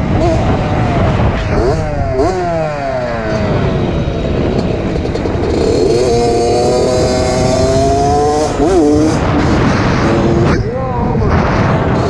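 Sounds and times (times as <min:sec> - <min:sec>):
two-stroke dirt bike engine revving: 0:00.0 - 0:10.6.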